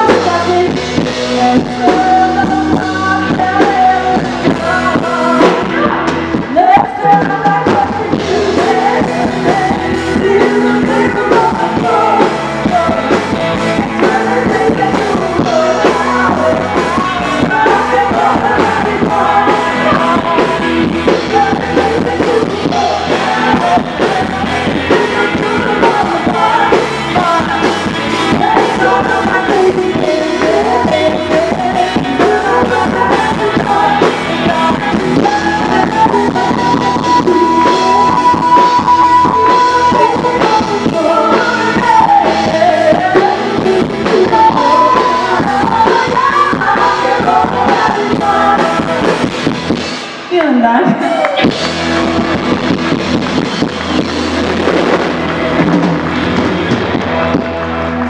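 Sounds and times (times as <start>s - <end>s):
person singing: 0.0s - 49.7s
rock and roll music: 0.0s - 58.0s.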